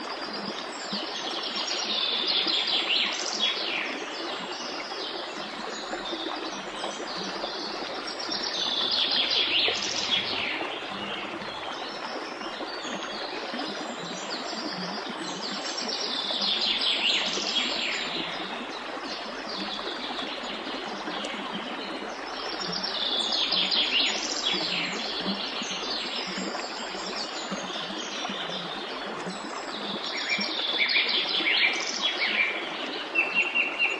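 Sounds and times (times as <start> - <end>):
flowing stream: 0.0 - 33.9.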